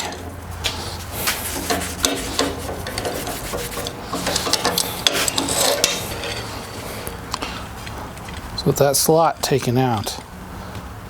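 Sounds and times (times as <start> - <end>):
metal hinge scraping: 0.0 - 10.2.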